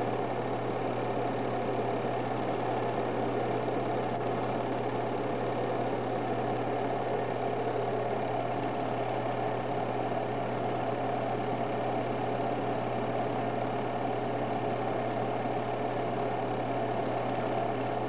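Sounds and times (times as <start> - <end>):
projector whirring and ticking: 0.0 - 18.0.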